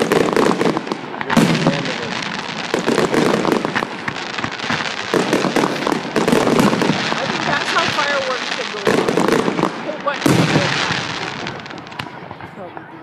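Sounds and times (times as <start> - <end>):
firework shells banging: 0.0 - 12.6
firework crackling and popping: 0.0 - 13.0.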